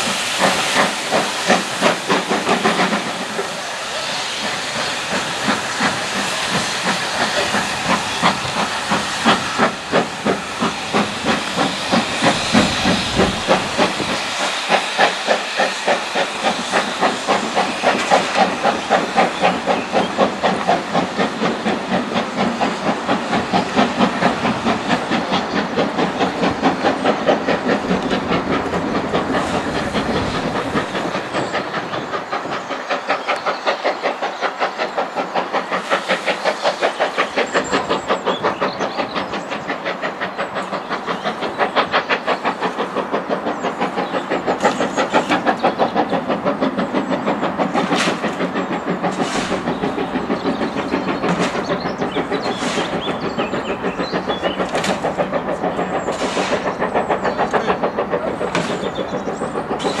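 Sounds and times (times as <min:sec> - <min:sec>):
steam locomotive chuffing: 0:00.0 - 1:00.0.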